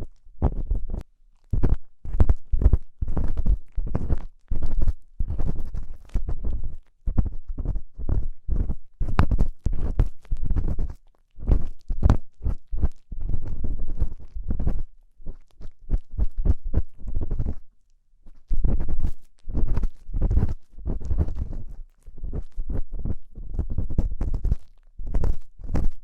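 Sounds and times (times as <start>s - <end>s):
ear-cleaning tool scraping microphone: 0.0s - 17.7s, 18.3s - 26.0s.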